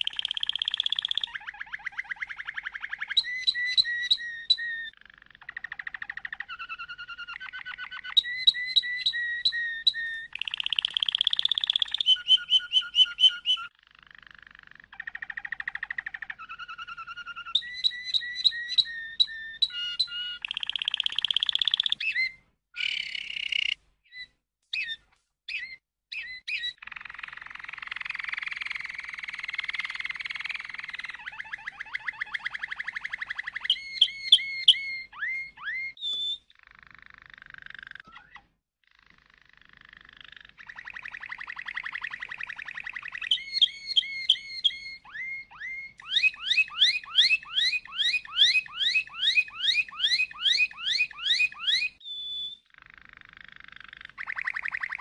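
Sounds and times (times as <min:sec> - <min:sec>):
canary singing: 0:00.0 - 0:55.0.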